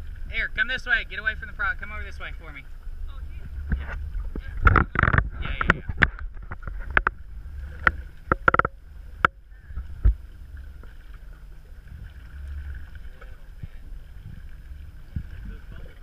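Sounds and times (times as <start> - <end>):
outboard motor whine: 0.0 - 16.0
water slapping against hull: 0.0 - 16.0
wind rumble on microphone: 0.0 - 16.0.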